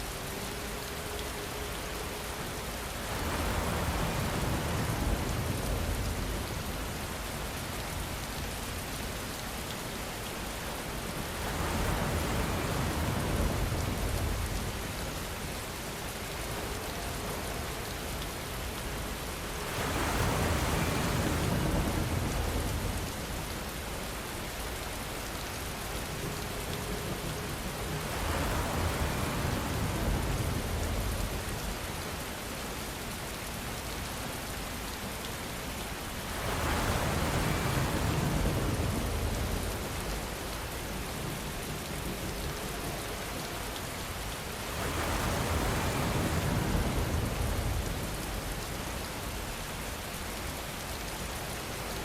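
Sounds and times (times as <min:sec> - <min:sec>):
rain hissing and pattering: 0:00.0 - 0:52.0.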